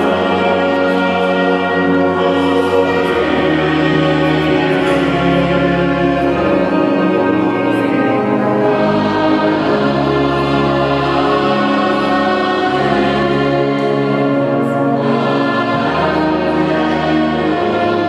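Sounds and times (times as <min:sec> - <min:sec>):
choir singing held chords: 0:00.0 - 0:18.0.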